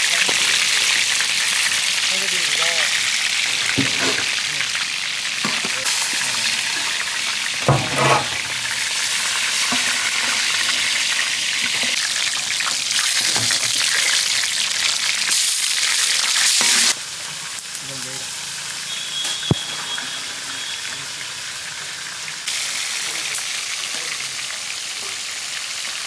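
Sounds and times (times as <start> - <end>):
deep-frying sizzle: 0.0 - 26.0.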